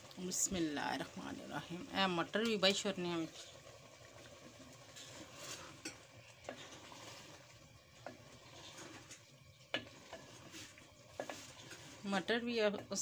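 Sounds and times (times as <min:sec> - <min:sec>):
faint frying sizzle: 0:00.0 - 0:13.0
wooden spoon stirring vegetables: 0:00.0 - 0:13.0.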